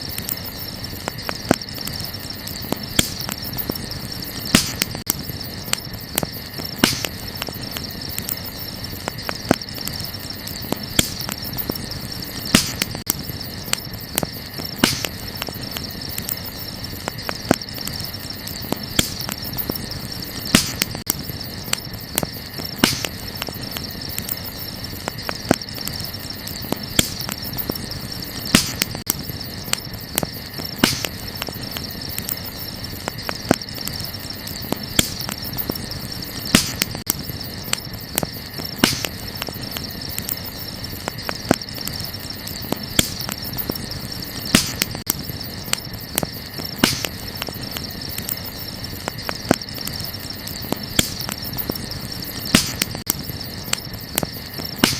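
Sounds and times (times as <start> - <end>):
campfire crackling and popping: 0.0 - 54.9
crickets chirping: 0.0 - 54.9.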